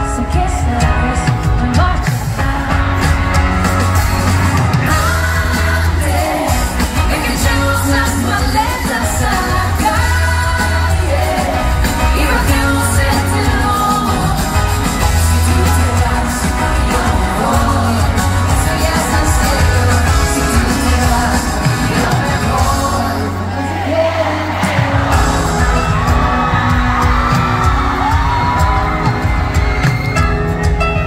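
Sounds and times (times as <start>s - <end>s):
singer's lead vocal: 0.0s - 30.2s
live pop-rock band: 0.0s - 31.0s.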